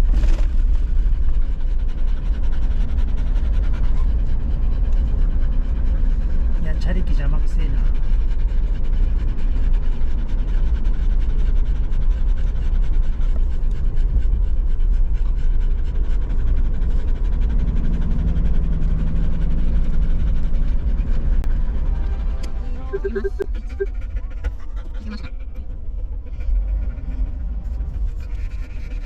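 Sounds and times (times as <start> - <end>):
van road rumble: 0.0 - 29.0
dog panting: 0.2 - 29.0.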